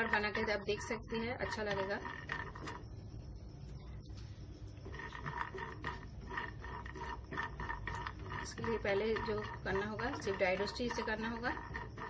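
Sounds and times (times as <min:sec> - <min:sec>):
metal spoon scraping nuts in pan: 0:00.0 - 0:02.9, 0:04.9 - 0:12.0
steady low hum: 0:00.0 - 0:12.0.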